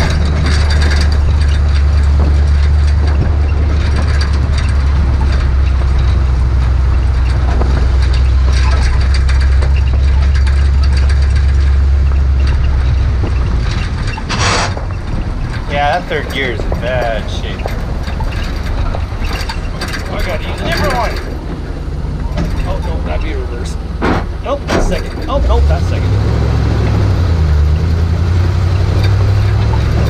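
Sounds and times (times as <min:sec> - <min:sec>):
truck engine droning under load: 0:00.0 - 0:30.0.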